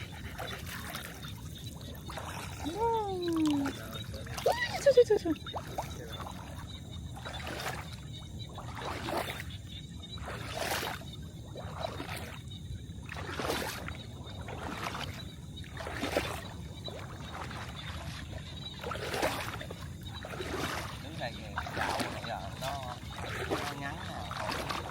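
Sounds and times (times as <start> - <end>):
paddle splashing through water: 0.0 - 24.9.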